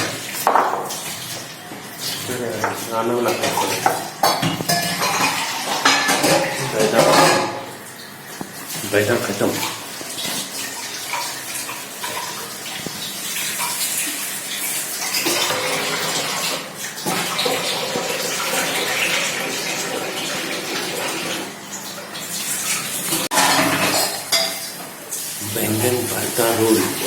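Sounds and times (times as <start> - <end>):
tap water splashing into sink: 0.0 - 25.0.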